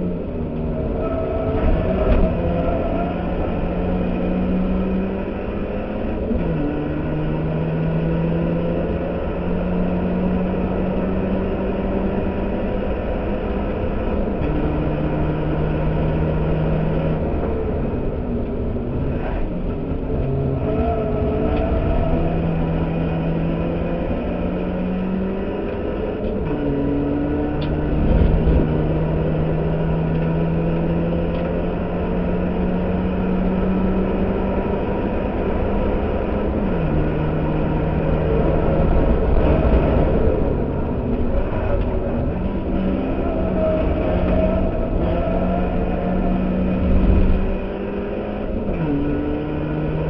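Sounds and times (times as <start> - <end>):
car engine running hard: 0.0 - 50.0
road noise: 0.0 - 50.0.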